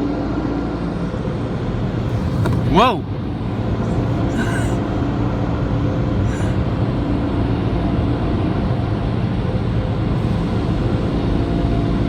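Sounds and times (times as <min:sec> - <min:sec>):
dryer blowers rushing air: 0:00.5 - 0:12.0
low hum: 0:00.6 - 0:12.0.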